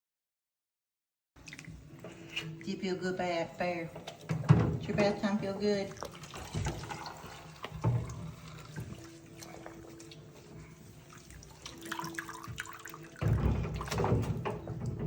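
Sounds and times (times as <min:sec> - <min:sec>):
bathwater splashing and dripping: 0:01.4 - 0:15.0.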